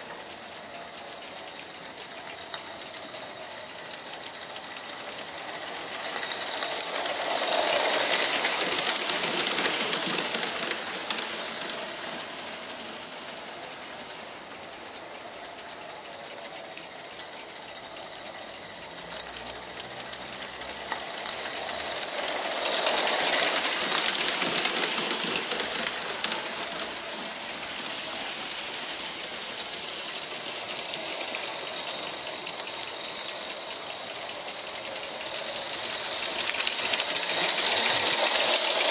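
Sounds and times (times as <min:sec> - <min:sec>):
model steam locomotive clattering: 0:00.0 - 0:38.9
steam hiss: 0:00.0 - 0:38.9.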